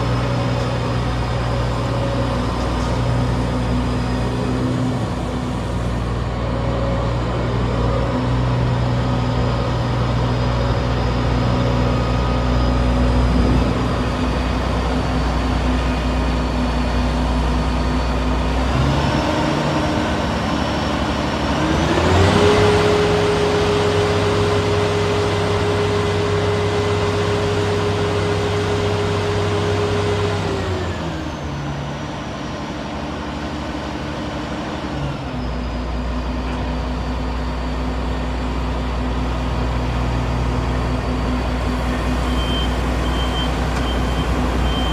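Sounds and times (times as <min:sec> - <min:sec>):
diesel engine idling and revving: 0:00.0 - 0:44.9.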